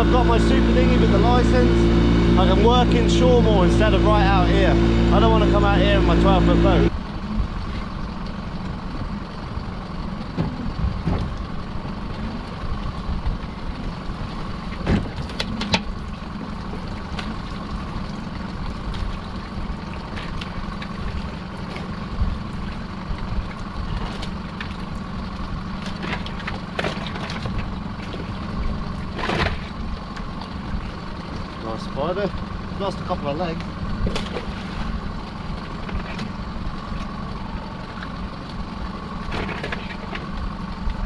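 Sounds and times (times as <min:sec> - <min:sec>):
boat engine idling: 0:00.0 - 0:41.0.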